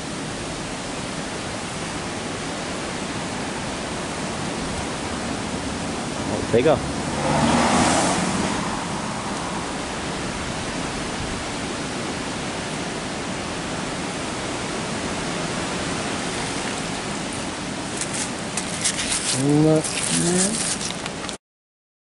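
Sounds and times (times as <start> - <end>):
water rushing over a weir: 0.0 - 21.4.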